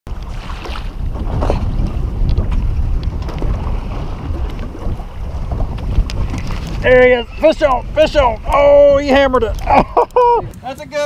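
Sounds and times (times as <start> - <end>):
water splashing against boat hull: 0.1 - 10.7
wind buffeting microphone: 0.1 - 11.0.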